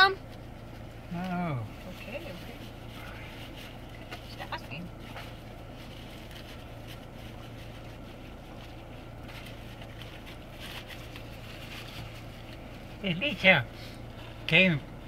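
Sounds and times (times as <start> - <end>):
car cabin hum: 0.0 - 15.0
faint rustles: 0.2 - 14.6.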